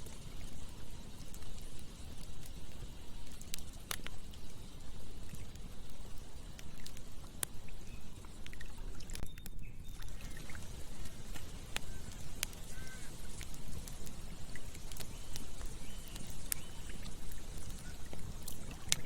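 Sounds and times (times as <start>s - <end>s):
campfire pops and snaps: 0.0s - 19.0s.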